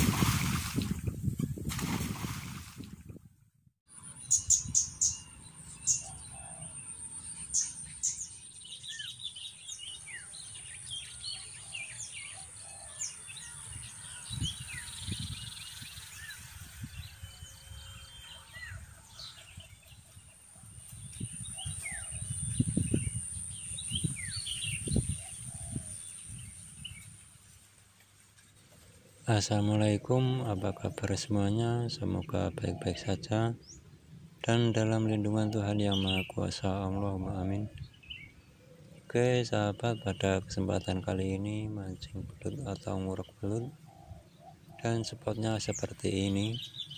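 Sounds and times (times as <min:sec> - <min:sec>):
small birds chirping: 0:03.9 - 0:27.2, 0:28.1 - 0:46.9.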